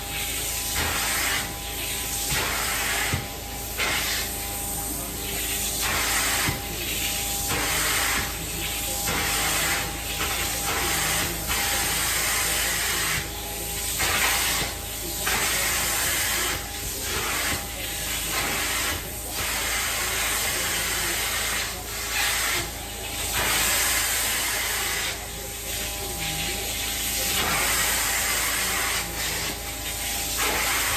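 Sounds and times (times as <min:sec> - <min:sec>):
cleaning machine humming: 0:00.0 - 0:30.9
extraction wand spraying and vacuuming: 0:00.0 - 0:30.9.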